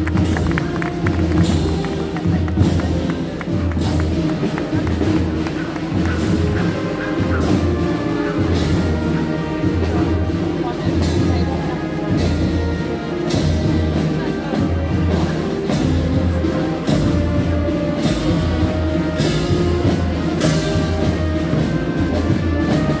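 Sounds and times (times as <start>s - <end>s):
drum beat: 0.0s - 23.0s.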